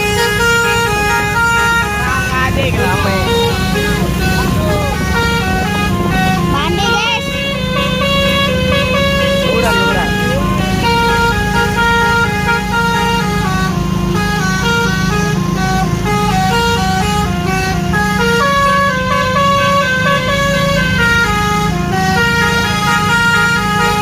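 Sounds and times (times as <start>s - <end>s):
musical air horn playing tune: 0.0s - 24.0s.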